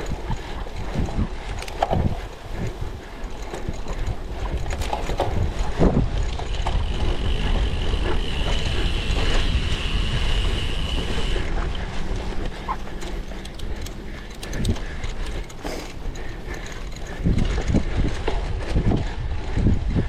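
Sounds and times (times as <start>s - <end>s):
bike rattling: 0.0s - 20.0s
bike tyres rumbling: 0.0s - 20.0s
wind on microphone: 0.0s - 20.0s.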